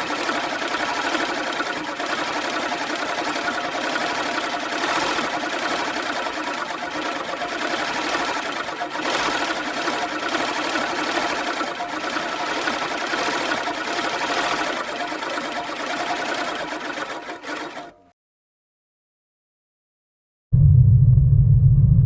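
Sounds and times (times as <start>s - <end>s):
small machine chattering: 0.0s - 18.0s.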